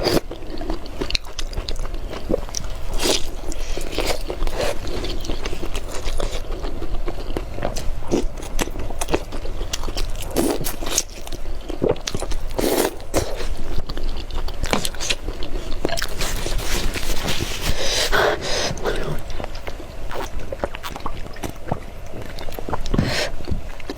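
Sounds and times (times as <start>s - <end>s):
chewing with crunchy bites: 0.0s - 23.9s.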